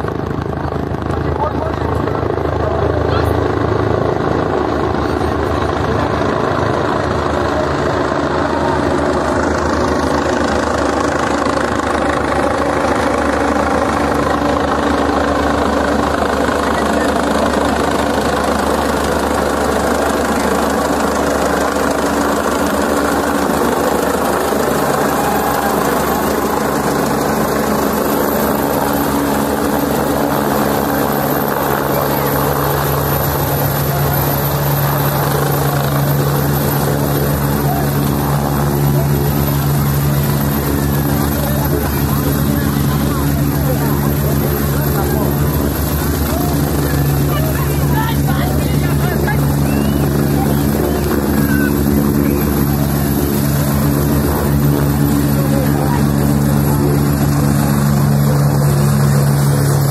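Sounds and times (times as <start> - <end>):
crowd talking: 0.0 - 59.9
helicopter engine and rotor drone: 0.0 - 59.9.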